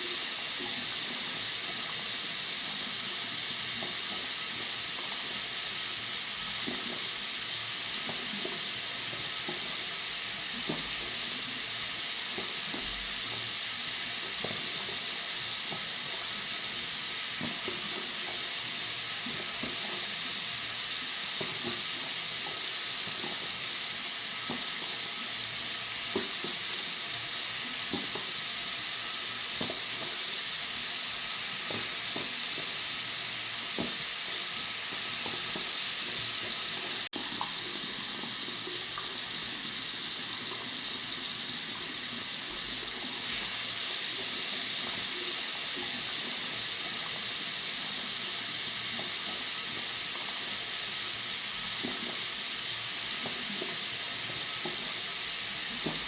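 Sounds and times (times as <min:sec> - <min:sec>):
water running from sink tap: 0:00.0 - 0:56.0.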